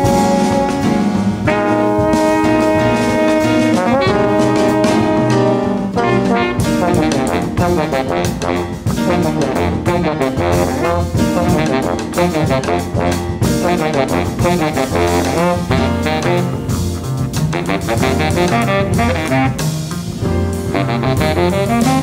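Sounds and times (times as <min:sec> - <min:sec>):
drum strokes: 0:00.0 - 0:22.0
jazz band playing: 0:00.0 - 0:22.0.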